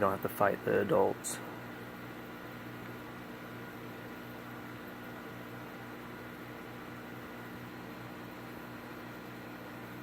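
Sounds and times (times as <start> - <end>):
aquarium equipment humming: 0.0 - 10.0.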